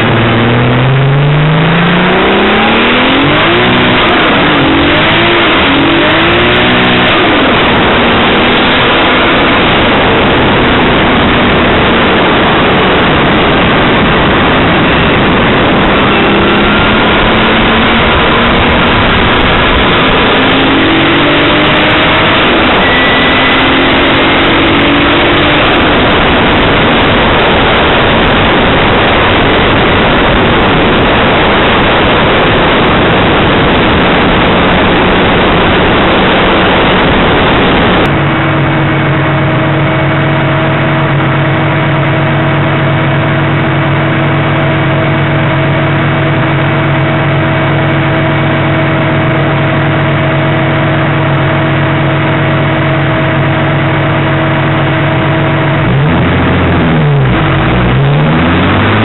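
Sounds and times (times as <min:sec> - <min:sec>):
car engine at highway speed: 0:00.0 - 0:59.0
car engine idling: 0:00.0 - 0:59.0
road noise rush: 0:00.0 - 0:59.0.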